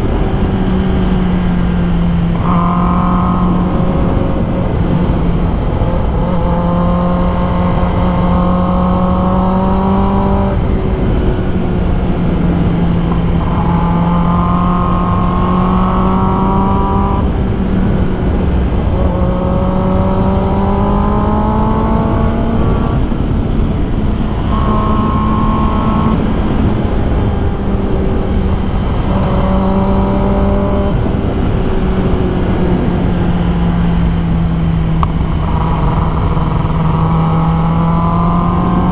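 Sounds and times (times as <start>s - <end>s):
heavy wind rush: 0.0s - 38.9s
motorcycle engine running: 0.0s - 38.9s.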